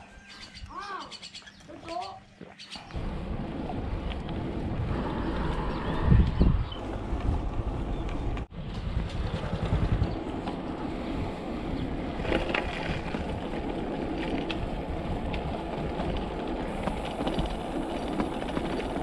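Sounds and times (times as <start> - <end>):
bicycle tyre rumble on road: 2.9 - 19.0
wind buffeting microphone: 2.9 - 19.0.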